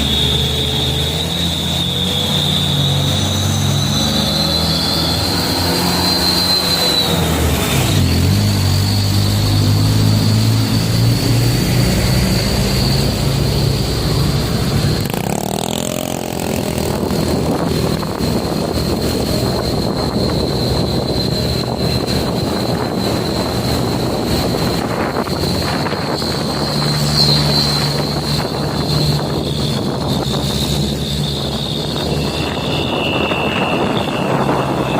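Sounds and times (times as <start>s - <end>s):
high whine: 0.0s - 34.9s
truck engine humming: 0.0s - 34.9s
tyre and wind noise: 0.0s - 34.9s.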